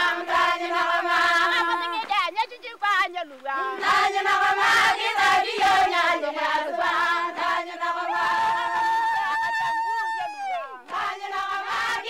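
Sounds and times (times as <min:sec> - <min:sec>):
women singing in chorus: 0:00.0 - 0:09.8, 0:10.5 - 0:12.0.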